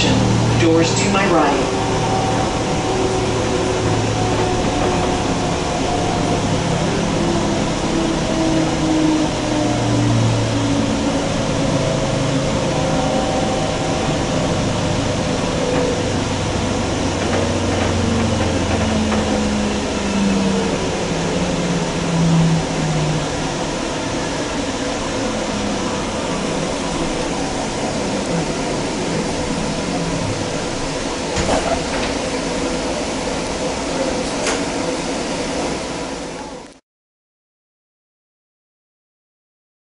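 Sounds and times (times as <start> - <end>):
rail car rumble: 0.0 - 36.8
traction motor whine: 0.0 - 36.8.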